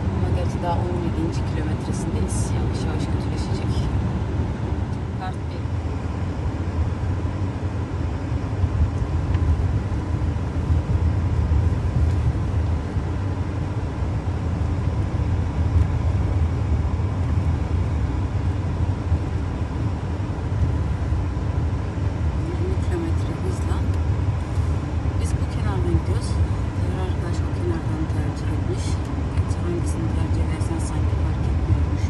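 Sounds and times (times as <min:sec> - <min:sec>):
car tyres and engine rumble: 0:00.0 - 0:32.0.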